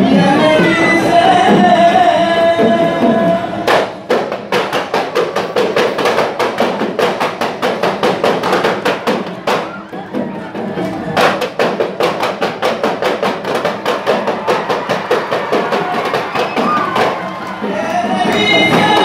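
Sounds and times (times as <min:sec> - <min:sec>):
small hand drums beating: 0:00.0 - 0:19.0.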